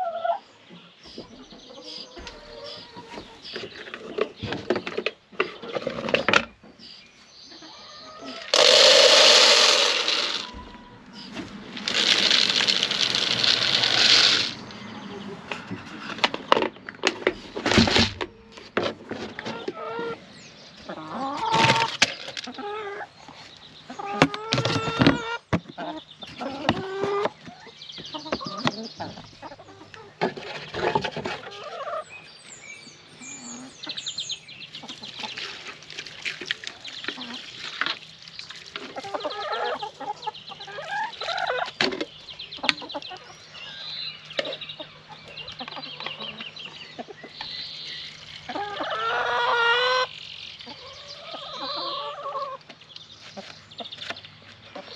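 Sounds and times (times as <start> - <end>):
chickens clucking: 0.0 - 32.5, 33.1 - 54.9.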